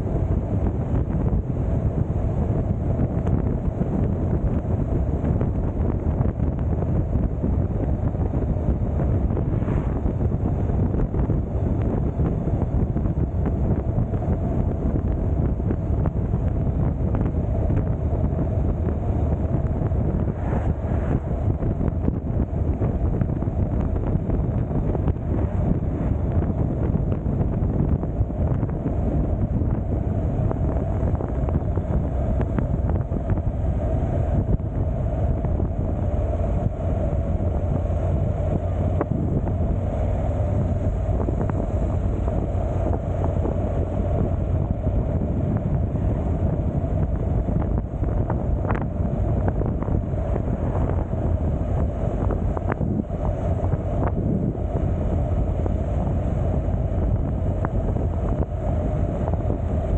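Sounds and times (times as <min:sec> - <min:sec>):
vehicle and road drone: 0:00.0 - 0:59.9
wind over microphone: 0:00.0 - 0:59.9.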